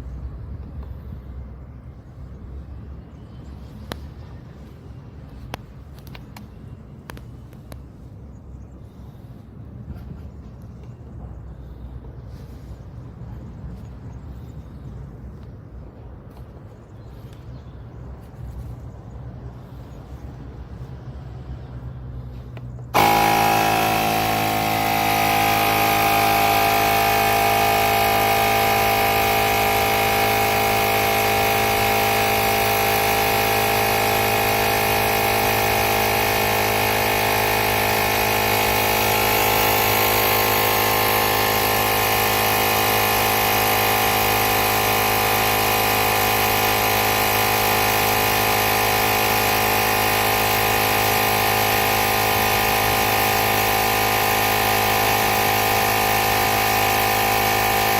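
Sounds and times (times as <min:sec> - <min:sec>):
small air compressor running: 0:00.0 - 0:57.9.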